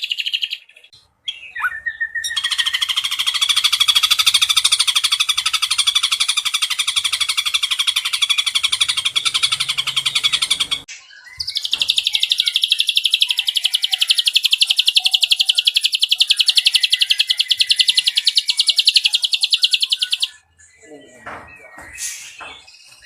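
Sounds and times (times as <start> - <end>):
bird trilling high notes: 1.3 - 20.4.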